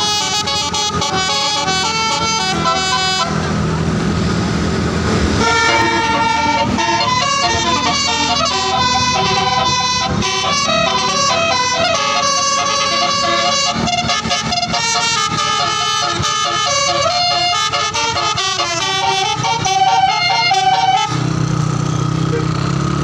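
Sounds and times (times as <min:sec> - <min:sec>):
multi-tone bus horn tune: 0:00.0 - 0:03.8, 0:05.3 - 0:21.5
bus engine rumble: 0:00.0 - 0:23.0.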